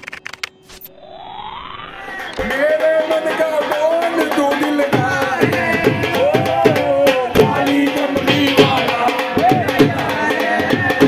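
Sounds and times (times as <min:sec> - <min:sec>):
person singing: 0:02.0 - 0:11.0
drum beats: 0:02.1 - 0:11.0.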